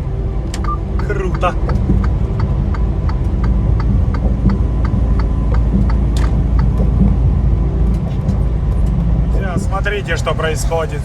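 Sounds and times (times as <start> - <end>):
truck engine and road rumble: 0.0 - 11.0
light regular ticking: 0.5 - 11.0.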